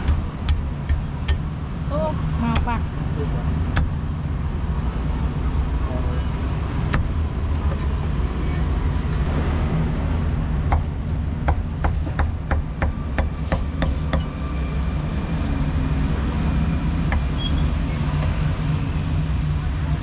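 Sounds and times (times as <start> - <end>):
low street rumble: 0.0 - 20.0.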